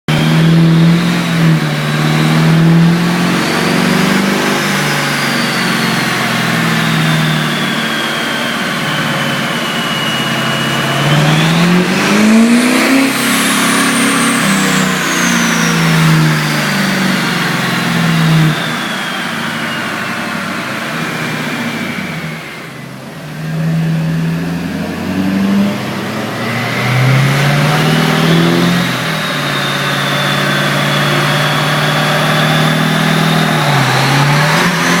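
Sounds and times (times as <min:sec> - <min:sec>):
turbo whistle: 0:00.1 - 0:25.6, 0:26.2 - 0:35.0
diesel engine under load: 0:00.1 - 0:35.0.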